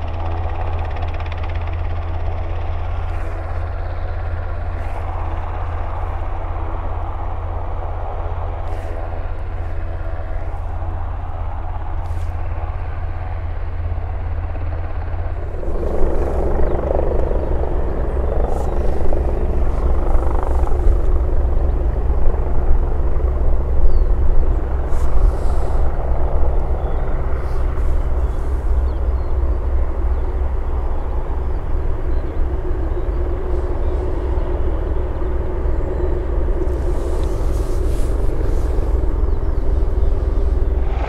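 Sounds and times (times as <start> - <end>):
helicopter rotor hovering: 0.0 - 41.0
helicopter turbines and rotor: 0.0 - 41.0.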